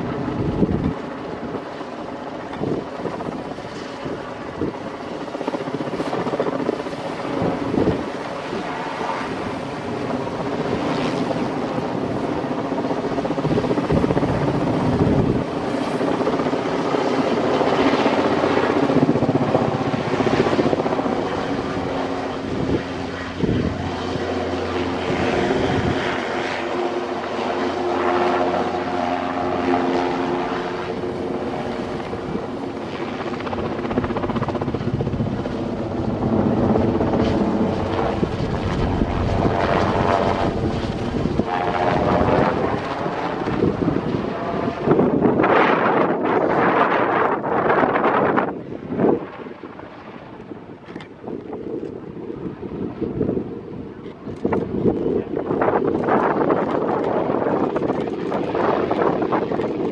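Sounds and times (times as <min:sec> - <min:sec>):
helicopter rotor beat and engine: 0:00.0 - 0:59.9.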